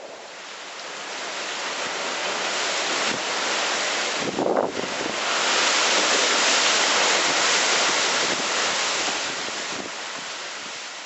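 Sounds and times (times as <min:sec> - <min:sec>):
rushing wind and rain: 0:00.0 - 0:11.0.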